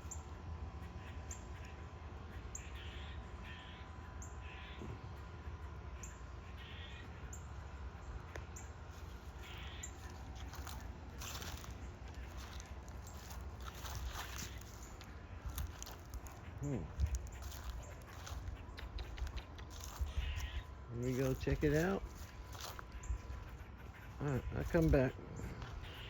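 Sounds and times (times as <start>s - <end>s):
squirrels giving alarm barks: 0.8s - 4.9s, 6.0s - 7.4s, 8.4s - 26.0s.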